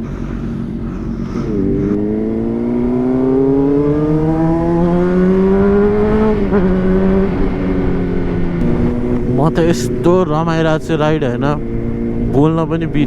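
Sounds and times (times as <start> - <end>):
motorcycle engine accelerating: 0.0 - 13.0
wind rumble: 0.0 - 13.0.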